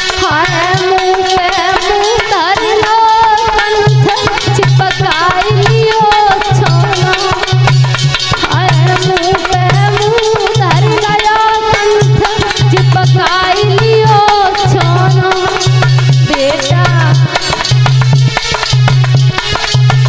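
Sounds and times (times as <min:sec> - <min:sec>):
hand drum rhythm: 0:00.0 - 0:20.0
woman singing a lament: 0:00.2 - 0:07.7, 0:08.4 - 0:17.4.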